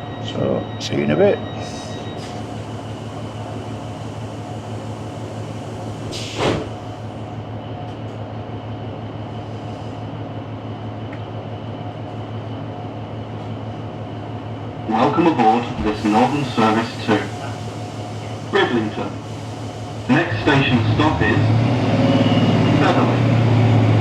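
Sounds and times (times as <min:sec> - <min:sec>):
train engine and ventilation hum: 0:00.0 - 0:24.0.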